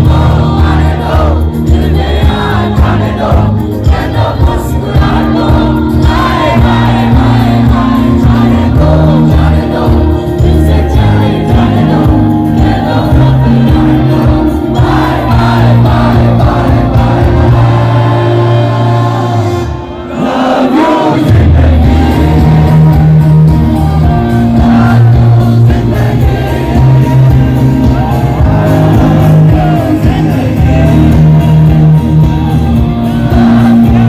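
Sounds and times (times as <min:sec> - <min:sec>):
crowd noise: 0:00.0 - 0:34.0
live band playing: 0:00.0 - 0:34.0.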